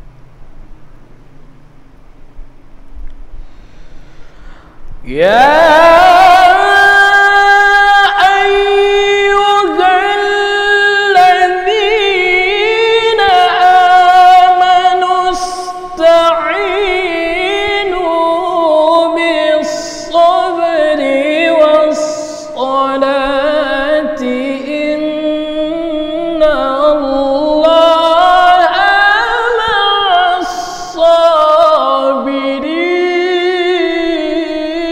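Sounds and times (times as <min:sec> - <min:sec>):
man chanting melodic recitation: 0:05.0 - 0:34.9.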